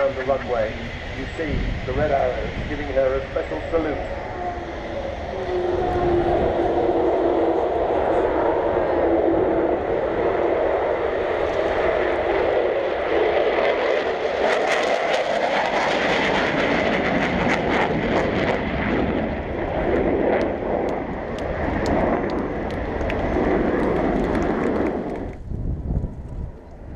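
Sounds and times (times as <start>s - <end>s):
jet aircraft roaring past: 0.0s - 26.9s.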